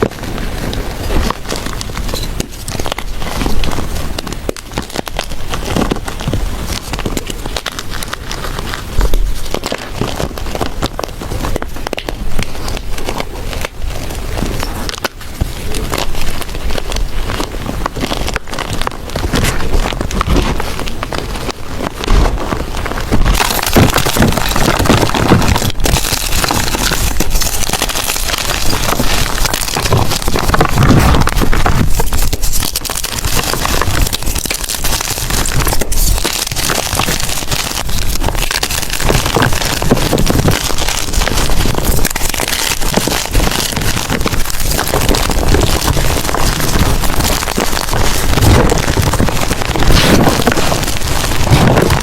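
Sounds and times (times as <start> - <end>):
chalk crunching by hand: 0.0 - 52.0.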